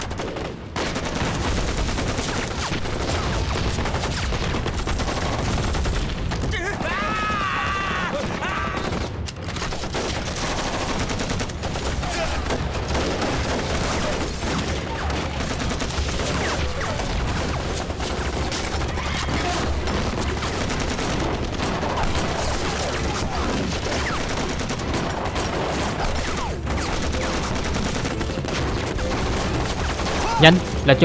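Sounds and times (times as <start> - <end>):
rapid gunfire: 0.0 - 31.0.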